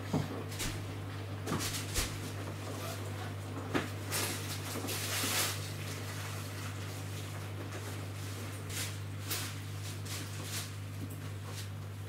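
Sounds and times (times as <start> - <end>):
laundry swishing in drum: 0.0 - 12.0
washing machine hum: 0.0 - 12.0.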